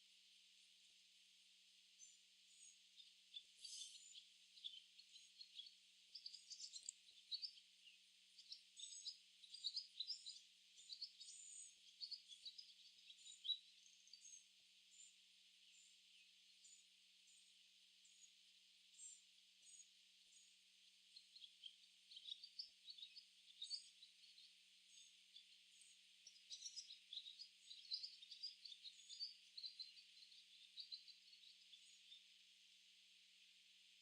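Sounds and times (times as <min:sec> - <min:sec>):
swallows chirping and twittering: 0:02.0 - 0:34.0.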